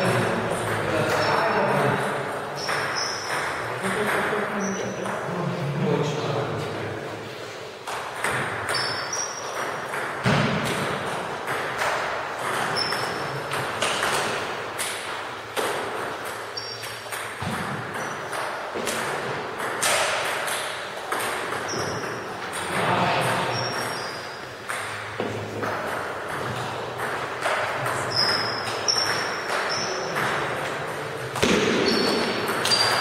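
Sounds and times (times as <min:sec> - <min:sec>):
table tennis balls clicking: 0:00.0 - 0:05.3, 0:07.8 - 0:33.0.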